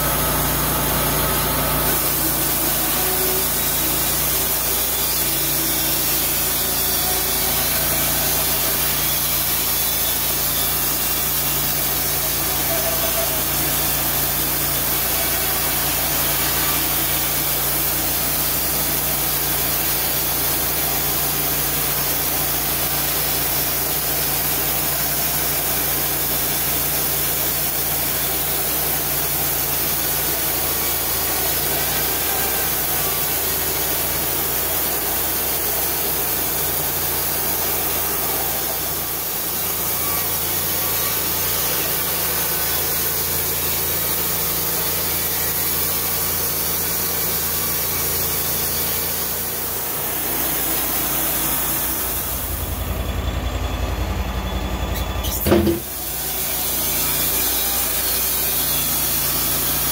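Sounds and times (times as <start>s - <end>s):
bandsaw mill sawing wood: 0.0s - 53.2s, 55.0s - 59.9s.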